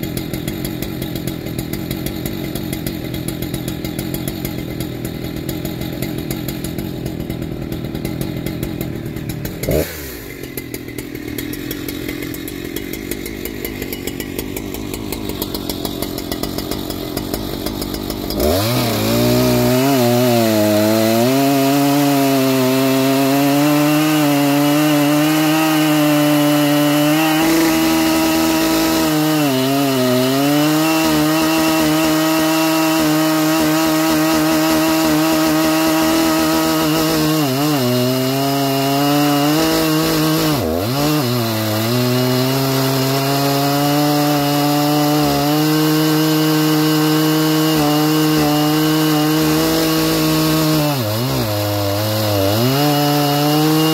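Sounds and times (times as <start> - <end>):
chainsaw cutting log: 0.0 - 53.9.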